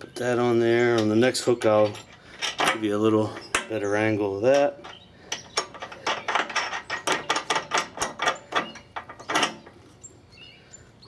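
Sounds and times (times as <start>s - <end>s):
metal bolt hardware clicking: 0.8s - 9.8s.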